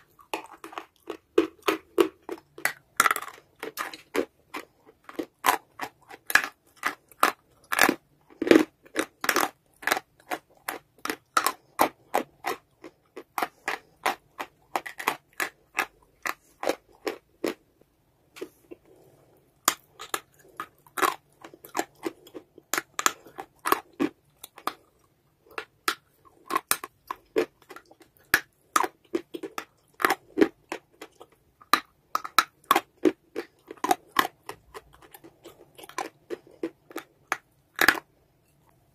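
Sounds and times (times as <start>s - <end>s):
clay being chewed with crunches: 0.0s - 38.9s.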